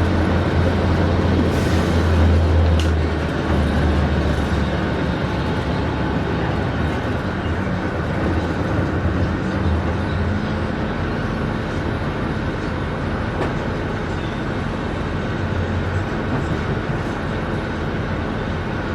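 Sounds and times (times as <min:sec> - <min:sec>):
bus diesel engine drone: 0:00.0 - 0:18.9
road noise: 0:00.0 - 0:18.9.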